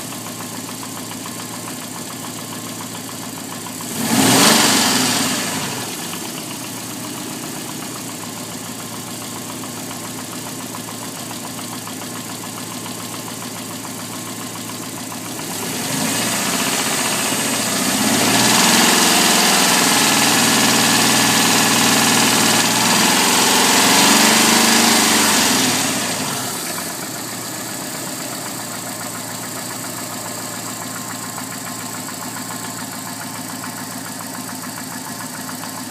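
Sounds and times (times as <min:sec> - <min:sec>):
car engine idling and revving: 0:00.0 - 0:35.9
engine ticking: 0:00.0 - 0:35.9.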